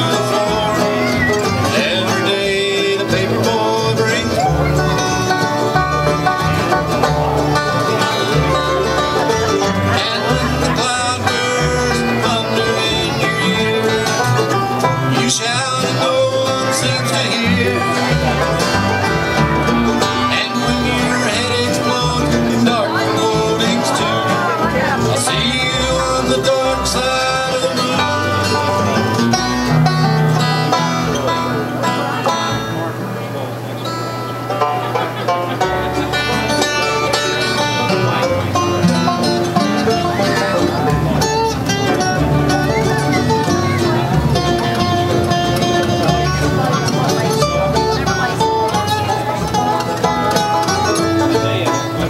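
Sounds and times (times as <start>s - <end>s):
acoustic guitar: 0.0s - 52.0s
banjo: 0.0s - 52.0s
fiddle: 0.0s - 52.0s
mandolin: 0.0s - 52.0s
upright bass: 0.0s - 52.0s.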